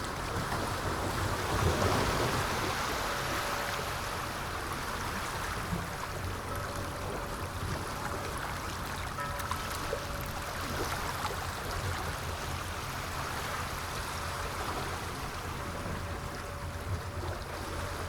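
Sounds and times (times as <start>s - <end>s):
sea waves washing: 0.0s - 18.0s.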